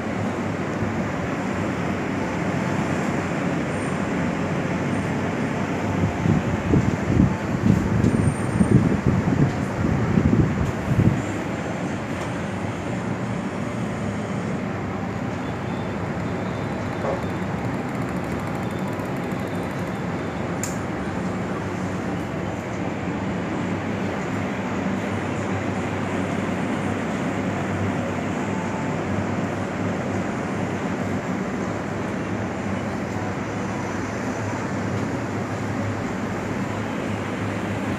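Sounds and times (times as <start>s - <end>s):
wall fan running: 0.0s - 37.9s.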